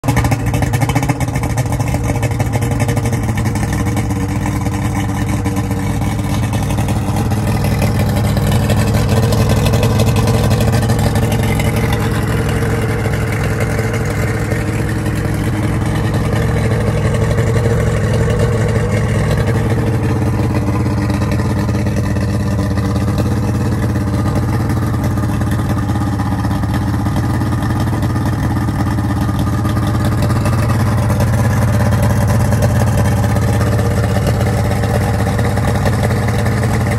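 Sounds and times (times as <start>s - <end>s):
outboard engine running: 0.0s - 36.9s.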